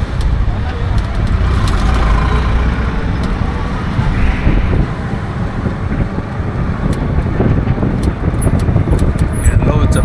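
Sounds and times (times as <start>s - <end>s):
street traffic: 0.0s - 10.0s
wind buffeting microphone: 0.0s - 10.0s.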